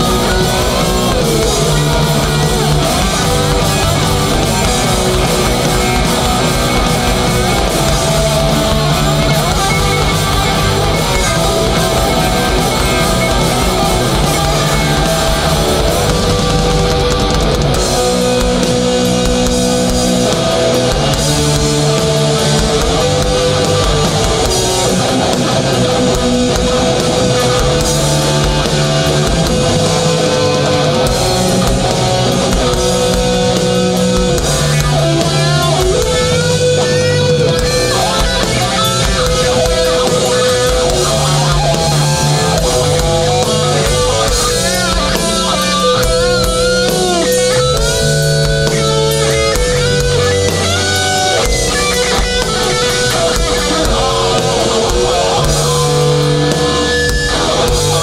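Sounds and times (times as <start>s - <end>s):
thrash metal band playing live: 0.0s - 58.0s.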